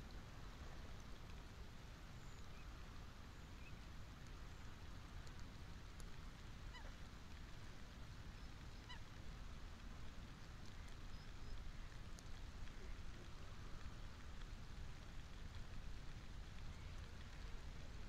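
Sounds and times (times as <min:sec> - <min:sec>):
rain: 0:00.0 - 0:18.0
wind: 0:00.0 - 0:18.0.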